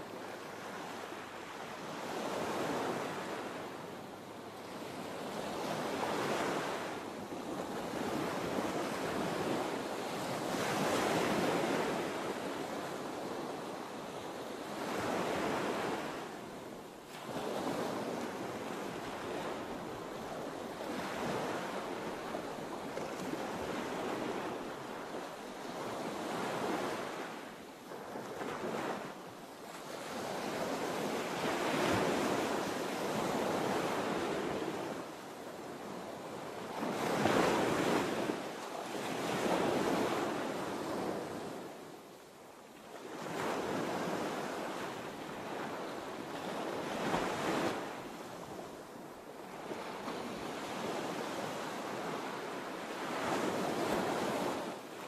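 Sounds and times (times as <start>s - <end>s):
waves breaking and washing in: 0.0s - 55.0s.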